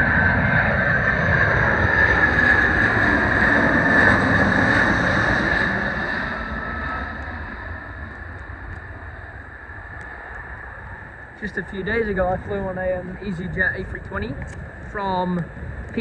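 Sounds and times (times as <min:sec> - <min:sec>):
jet engines whining and rumbling: 0:00.0 - 0:16.0.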